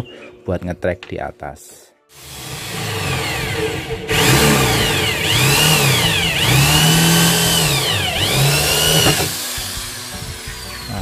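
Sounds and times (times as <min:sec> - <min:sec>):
electric drill boring into wood: 0:02.1 - 0:11.0.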